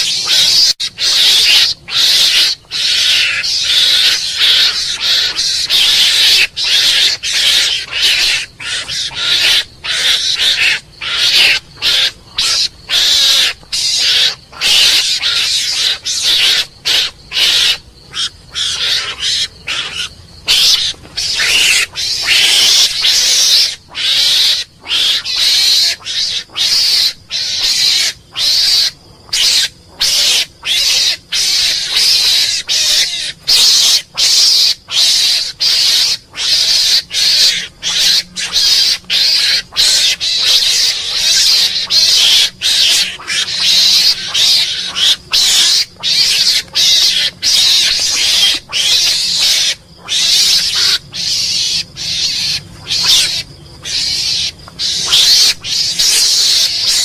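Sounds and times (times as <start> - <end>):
mongoose hissy high-pitched calls: 0.0 - 57.0.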